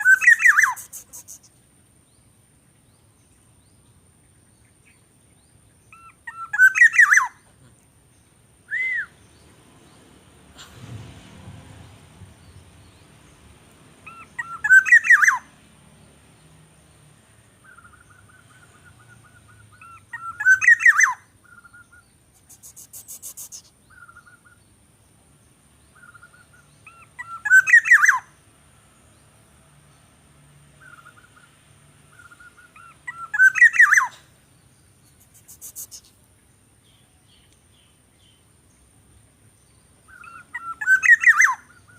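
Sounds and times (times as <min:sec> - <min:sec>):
soft repeated bird notes: 0:00.0 - 0:10.1, 0:14.0 - 0:28.6, 0:30.7 - 0:41.9
bird chirping: 0:00.0 - 0:10.6, 0:11.7 - 0:41.9.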